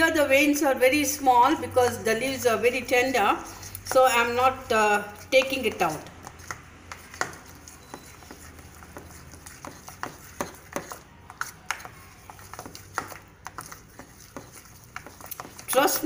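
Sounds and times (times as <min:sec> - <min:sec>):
spoon scraping ceramic bowl: 0:01.9 - 0:16.0.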